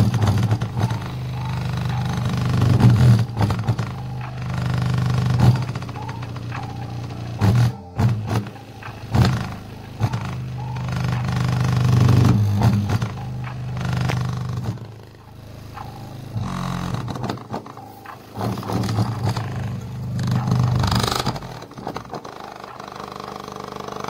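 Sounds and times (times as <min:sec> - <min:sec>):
subwoofer playing deep bass notes: 0:00.0 - 0:22.9.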